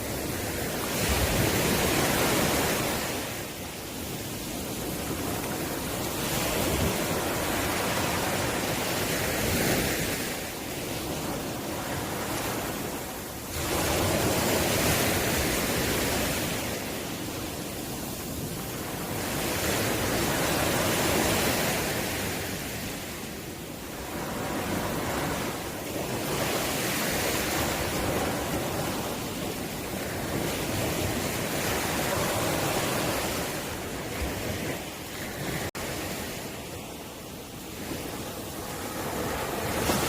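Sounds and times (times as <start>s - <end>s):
sea waves breaking on shore: 0.0s - 40.0s.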